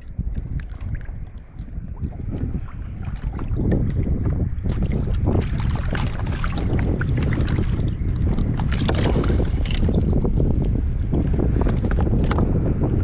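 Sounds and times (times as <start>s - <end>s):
water lapping against hull: 0.0s - 13.0s
wind rumbling on microphone: 0.0s - 13.0s.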